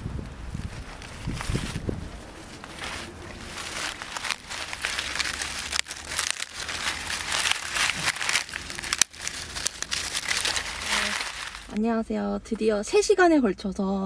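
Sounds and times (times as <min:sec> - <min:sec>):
crinkling rustling noise: 0:00.0 - 0:11.8.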